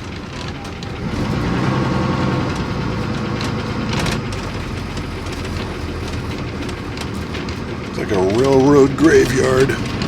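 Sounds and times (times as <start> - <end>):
heavy engine rumbling: 0.0 - 10.0.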